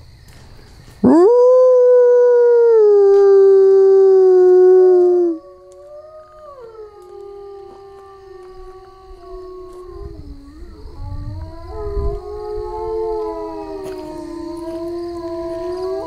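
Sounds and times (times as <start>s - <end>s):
loud wolf howl: 1.0s - 16.0s
wolves howling in chorus: 1.0s - 16.0s.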